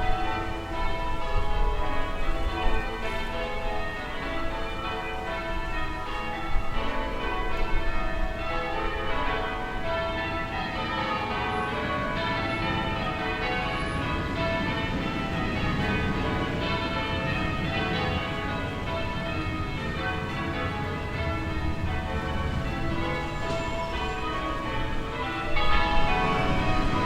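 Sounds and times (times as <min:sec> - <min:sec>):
distant church bells ringing: 0:00.0 - 0:27.0
low town rumble: 0:00.0 - 0:27.0.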